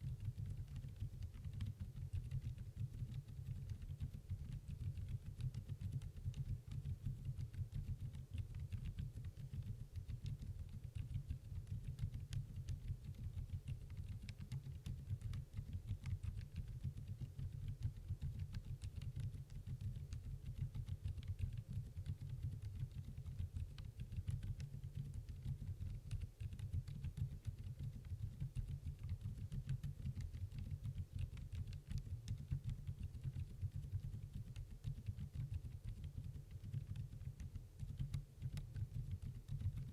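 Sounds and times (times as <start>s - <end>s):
typing on quiet keyboard: 0.0s - 39.9s.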